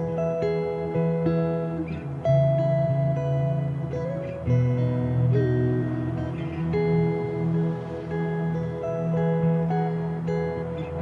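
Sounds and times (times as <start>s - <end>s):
soft ambient instrumental music: 0.0s - 11.0s.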